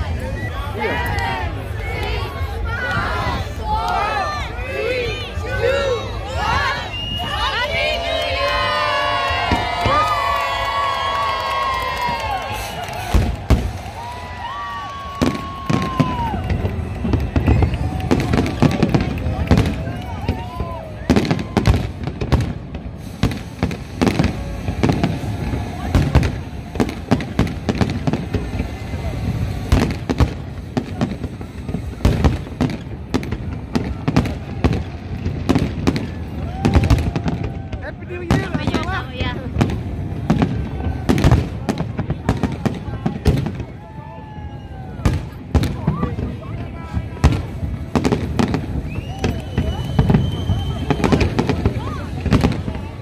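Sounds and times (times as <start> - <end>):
continuous low rumble: 0.0 - 53.0
crowd cheering: 0.0 - 53.0
fireworks banging: 5.9 - 53.0.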